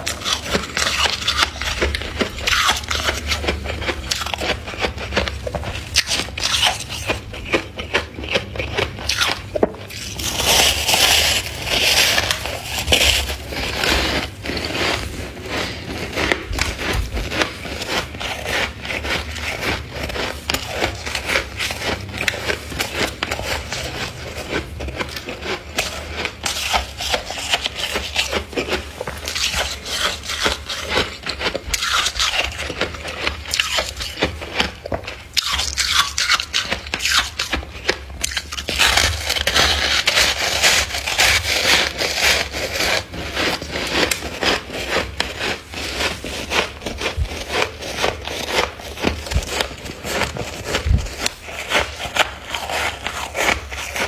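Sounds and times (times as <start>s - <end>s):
freezer frost being scraped: 0.0s - 54.0s.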